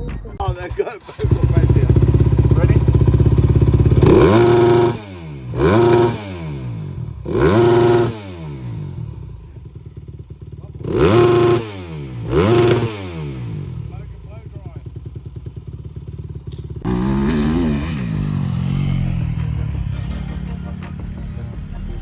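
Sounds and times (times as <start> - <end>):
dirt bike engine revving: 0.4 - 21.0.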